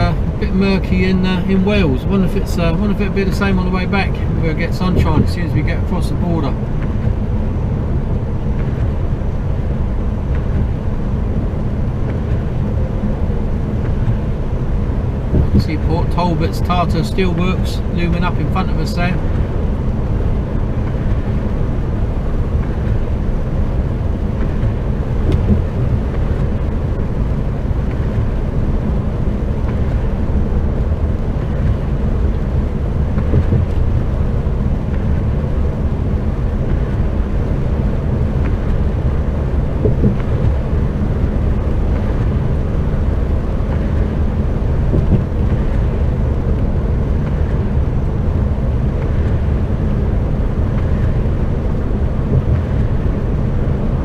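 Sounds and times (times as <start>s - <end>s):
lorry engine and tyres droning: 0.0s - 54.0s.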